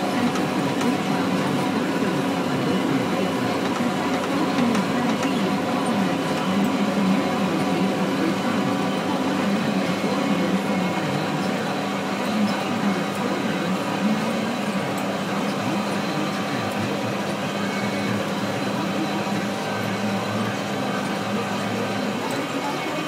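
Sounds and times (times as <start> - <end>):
tractor engine drone: 0.0 - 23.0.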